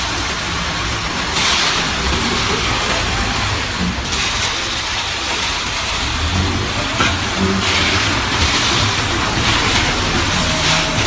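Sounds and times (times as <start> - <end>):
diesel engine rumbling: 0.0 - 11.0
steady hiss: 0.0 - 11.0.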